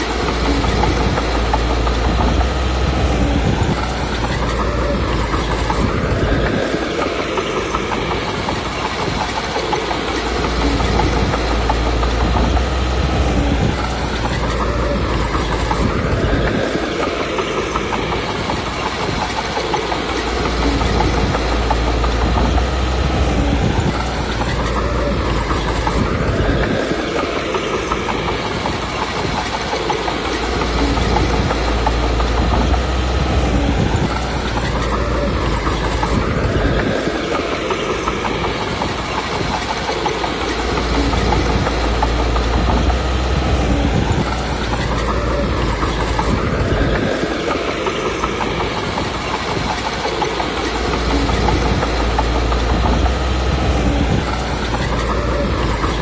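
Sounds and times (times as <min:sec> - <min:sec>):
diesel engine rising and falling: 0:00.0 - 0:56.0.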